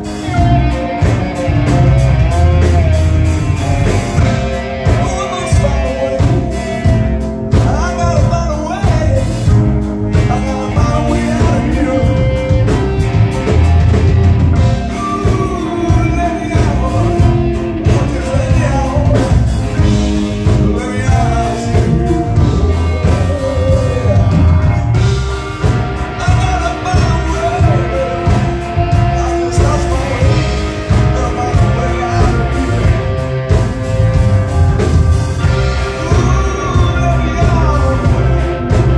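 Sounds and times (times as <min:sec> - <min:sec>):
drum kit steady beat: 0:00.0 - 0:38.9
electric guitar: 0:00.0 - 0:38.9
singer singing into microphone: 0:03.6 - 0:13.1, 0:14.6 - 0:33.6, 0:35.7 - 0:38.9.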